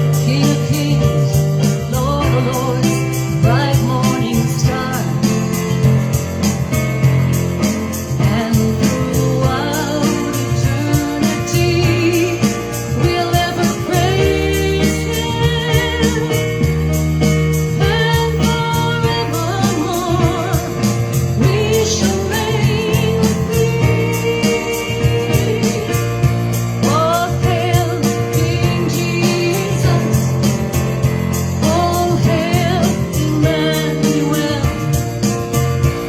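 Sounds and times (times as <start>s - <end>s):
woman singing with vibrato: 0.0s - 5.5s, 8.2s - 16.9s, 17.8s - 30.4s, 31.6s - 35.0s
backing track with steady beat: 0.0s - 36.0s.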